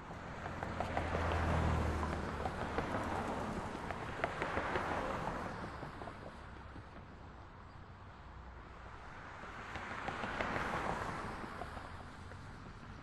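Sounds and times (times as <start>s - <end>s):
vehicle engine and tyre noise: 0.0s - 13.0s.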